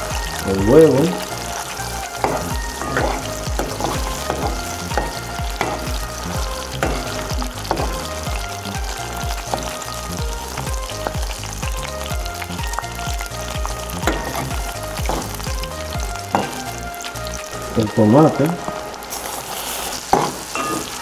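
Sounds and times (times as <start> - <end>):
egg and peppers sizzling in oil: 0.0 - 21.0.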